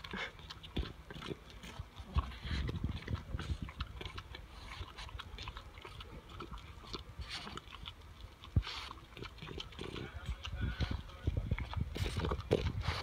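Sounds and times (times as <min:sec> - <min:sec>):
dog crunching corn: 0:00.0 - 0:13.0.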